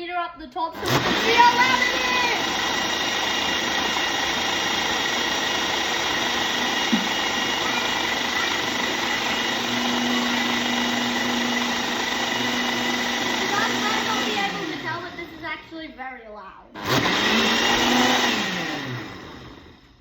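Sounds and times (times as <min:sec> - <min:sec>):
blender running: 0:00.7 - 0:15.8, 0:16.8 - 0:20.0.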